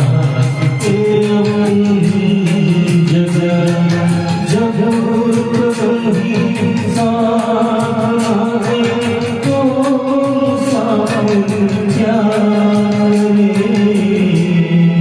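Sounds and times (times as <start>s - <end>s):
instrumental backing: 0.0s - 15.0s
light percussion beat: 0.0s - 15.0s
person singing long gliding notes: 0.0s - 15.0s.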